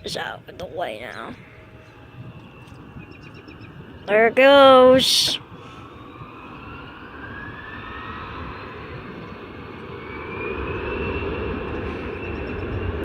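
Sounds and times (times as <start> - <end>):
jet engines spooling up: 0.0 - 13.0.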